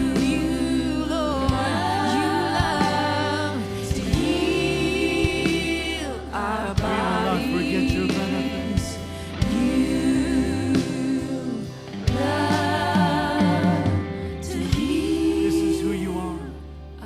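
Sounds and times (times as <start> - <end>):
person singing with vibrato: 0.0 - 16.7
sustained instrumental backing: 0.0 - 17.0.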